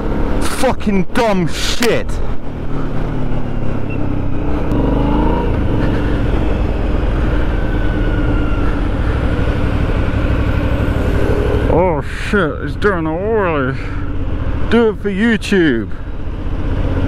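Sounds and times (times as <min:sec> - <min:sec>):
motorcycle engine running: 0:02.2 - 0:17.0.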